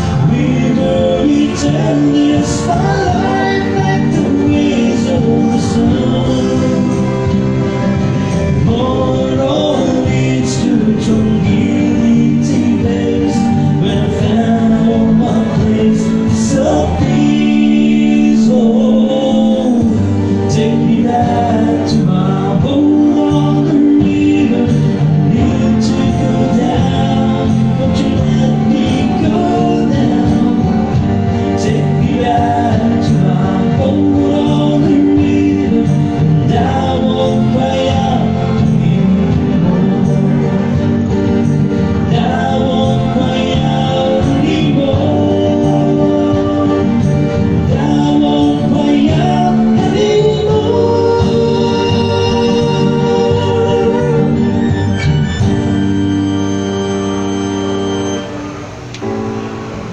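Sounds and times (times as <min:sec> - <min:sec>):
man singing into a microphone: 0:00.0 - 0:56.4
acoustic guitar strumming: 0:00.0 - 0:59.9.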